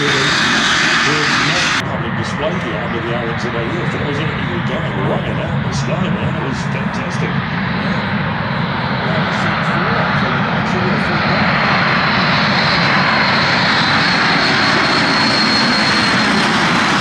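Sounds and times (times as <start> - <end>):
aircraft engine noise: 0.0 - 17.0.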